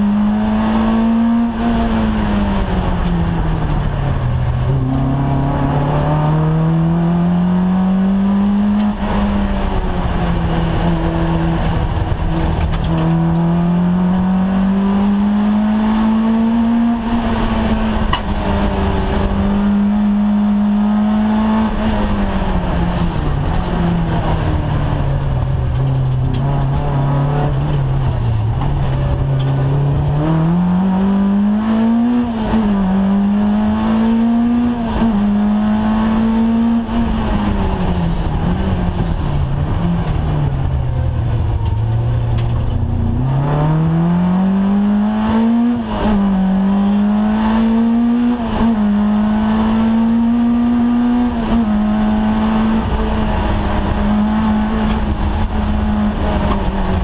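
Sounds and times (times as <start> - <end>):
car engine revving through gear shifts: 0.0 - 57.0.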